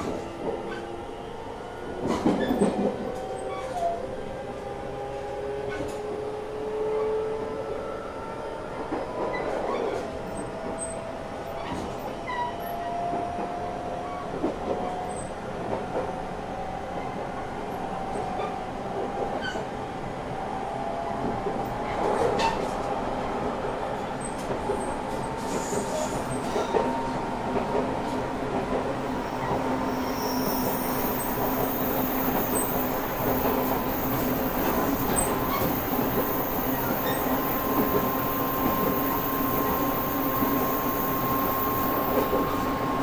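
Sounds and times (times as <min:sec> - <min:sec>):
train rumble: 0:00.0 - 0:06.7, 0:07.4 - 0:43.0.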